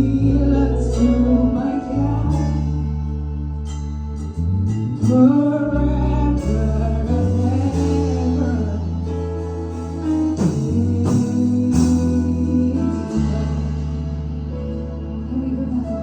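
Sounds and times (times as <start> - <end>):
sustained low chords: 0.0 - 16.0.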